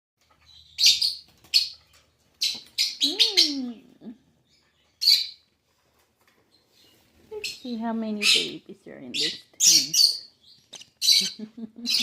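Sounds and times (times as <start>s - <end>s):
lovebirds chirping: 0.2s - 12.0s.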